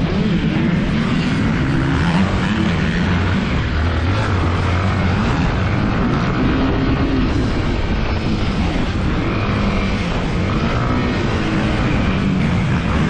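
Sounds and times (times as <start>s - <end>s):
constant rush of noise: 0.0s - 13.0s
dirt bike engine under throttle: 0.0s - 13.0s.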